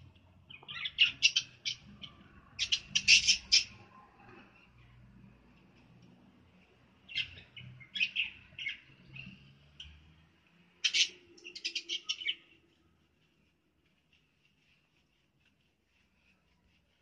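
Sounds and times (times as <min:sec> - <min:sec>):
small birds chirping: 0:00.0 - 0:04.0, 0:06.5 - 0:17.0.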